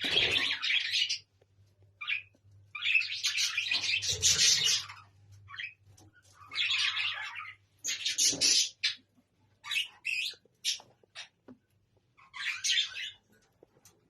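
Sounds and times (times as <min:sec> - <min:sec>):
budgerigars chattering and squawking: 0:00.0 - 0:01.3, 0:02.0 - 0:11.4, 0:12.2 - 0:13.2.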